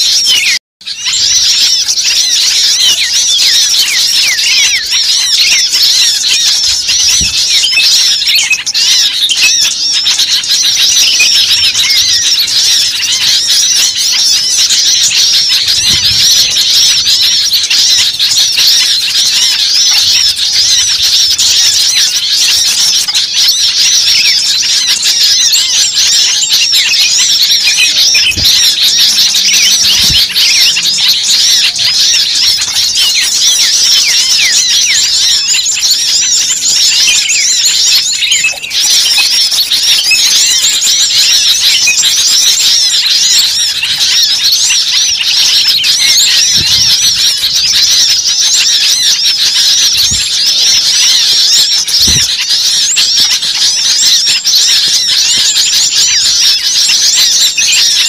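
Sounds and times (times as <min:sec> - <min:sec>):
flock of small birds chirping: 0:00.0 - 0:58.0.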